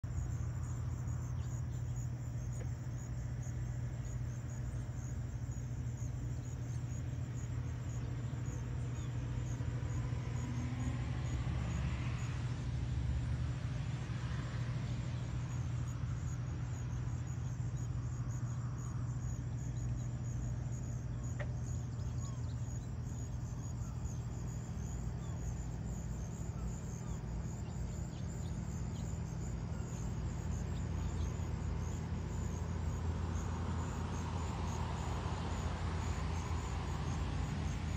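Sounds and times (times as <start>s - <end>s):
road noise: 0.0s - 37.9s.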